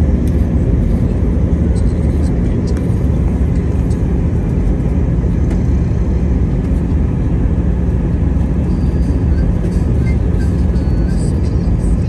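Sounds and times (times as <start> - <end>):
airplane cabin rumble: 0.0 - 12.0
faint constant hum: 0.0 - 12.0.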